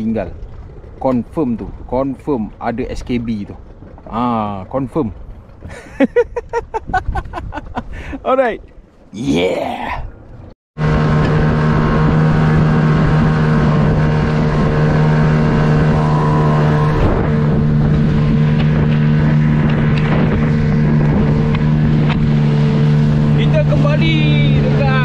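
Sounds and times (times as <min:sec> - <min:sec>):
outboard motor running: 0:00.0 - 0:08.2, 0:10.2 - 0:25.0
wind noise: 0:00.0 - 0:08.9, 0:10.4 - 0:25.0
water noise: 0:00.0 - 0:25.0.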